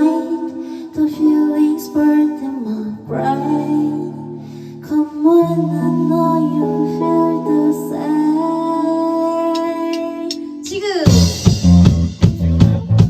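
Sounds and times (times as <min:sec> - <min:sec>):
band music with vocals: 0:00.0 - 0:13.0.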